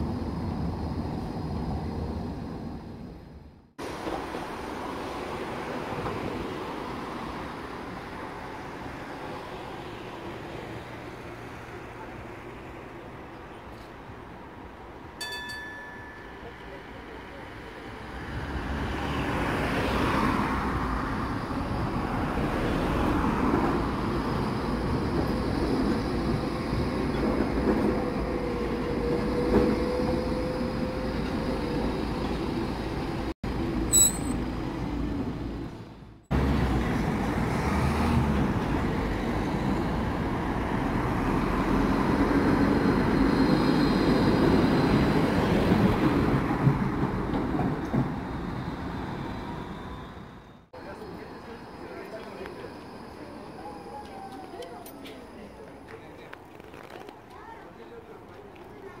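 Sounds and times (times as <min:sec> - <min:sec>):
road traffic passing: 0:00.0 - 0:53.7
trams rolling on rails: 0:00.0 - 0:59.0.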